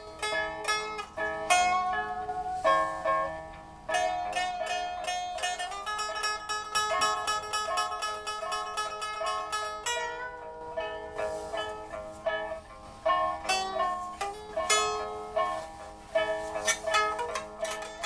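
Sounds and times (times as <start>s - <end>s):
plucked string instrument: 0.0s - 18.0s.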